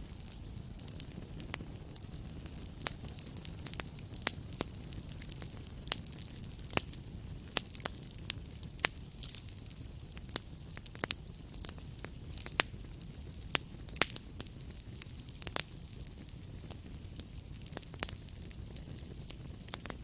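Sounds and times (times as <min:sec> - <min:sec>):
low rumble of burning: 0:00.0 - 0:20.0
wood fire crackling and popping: 0:00.0 - 0:20.0.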